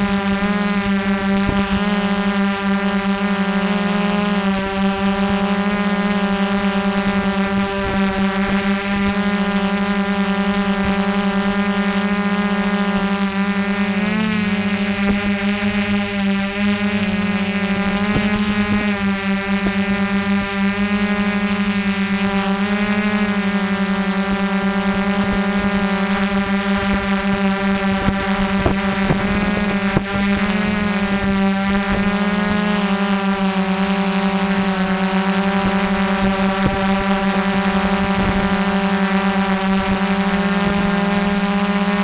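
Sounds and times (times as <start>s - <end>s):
small motor humming: 0.0s - 42.0s.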